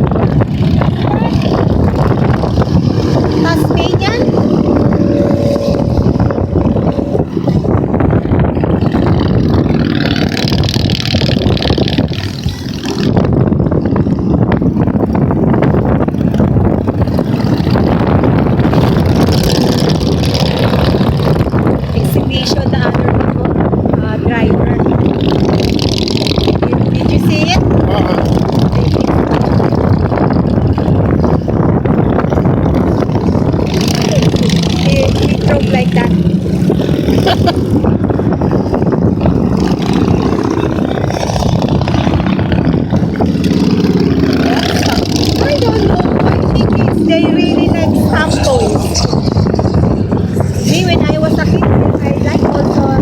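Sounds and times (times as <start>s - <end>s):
motorcycles riding past: 0.0s - 53.0s.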